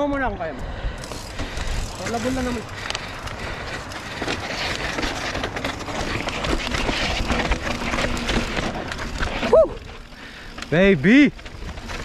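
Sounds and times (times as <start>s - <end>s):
bike knocking and rattling: 0.0s - 12.0s
steady rushing noise: 0.0s - 12.0s
tyres crunching over dirt: 1.0s - 12.0s.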